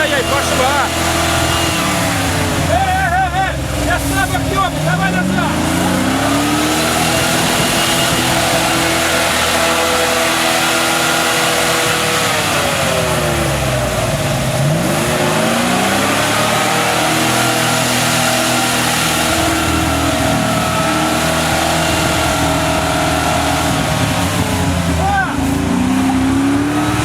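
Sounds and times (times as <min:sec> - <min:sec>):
truck engine revving under load: 0:00.0 - 0:27.0.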